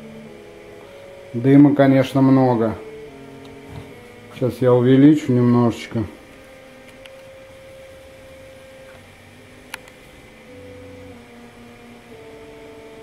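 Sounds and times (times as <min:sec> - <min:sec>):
steady hum: 0:00.0 - 0:13.0
stepper motor whine: 0:00.0 - 0:13.0.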